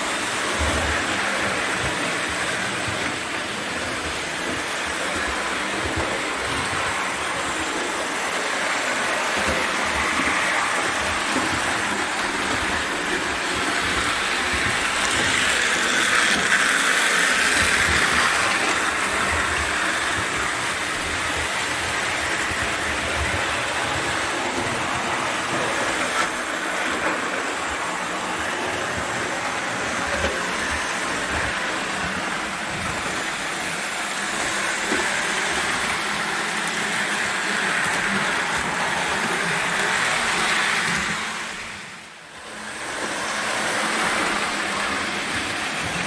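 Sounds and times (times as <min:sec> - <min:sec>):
toy train whirring on track: 0:00.0 - 0:46.0.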